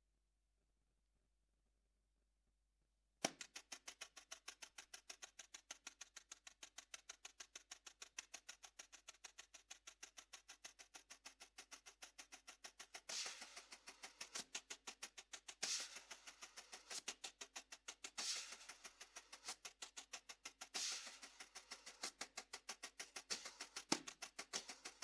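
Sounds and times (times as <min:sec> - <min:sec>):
wire brushes tapping snare drum: 0:03.2 - 0:25.0.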